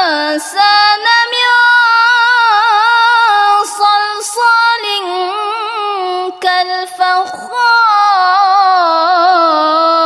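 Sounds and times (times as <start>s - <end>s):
boy reciting in melodic chant: 0.0s - 10.0s.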